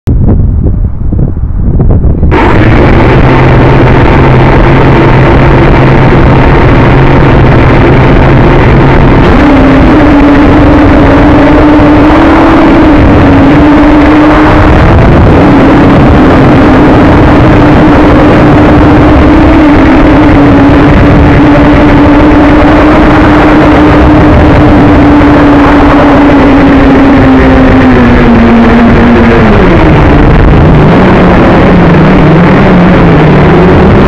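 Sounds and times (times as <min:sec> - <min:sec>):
wind buffeting microphone: 0:00.0 - 0:34.0
drone motors whining: 0:02.0 - 0:34.0.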